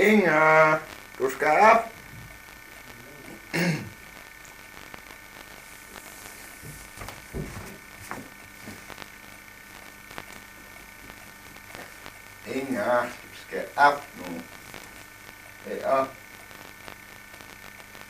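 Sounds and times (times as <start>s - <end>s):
tape electrical hum and hiss: 0.0s - 18.0s.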